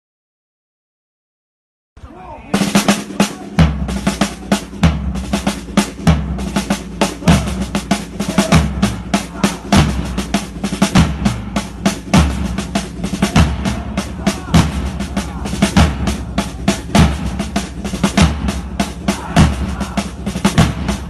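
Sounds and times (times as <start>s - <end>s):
drum-heavy music: 2.1s - 21.0s
rapid snare drum hits: 2.5s - 21.0s
bass drum beats: 2.6s - 21.0s.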